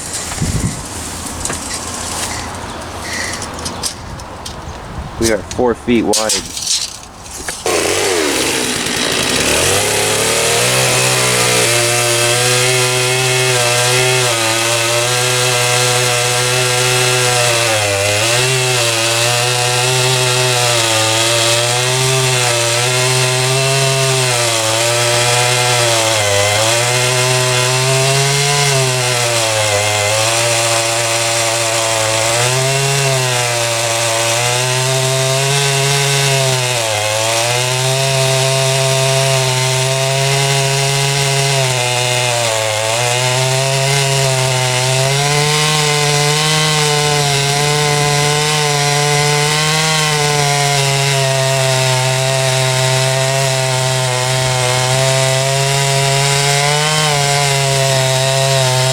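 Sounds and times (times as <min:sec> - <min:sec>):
chainsaw cutting through log: 0:07.5 - 0:58.9.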